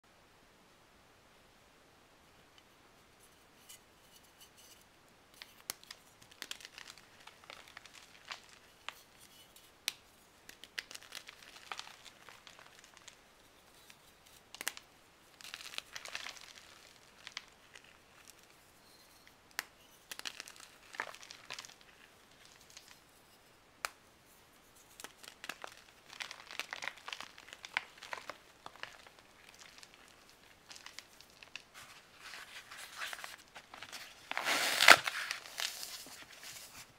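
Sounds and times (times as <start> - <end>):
powdery rustling: 5.4 - 9.7, 10.5 - 23.4, 24.3 - 36.9
dry foam crackling and crunching: 5.4 - 24.0, 24.7 - 36.9.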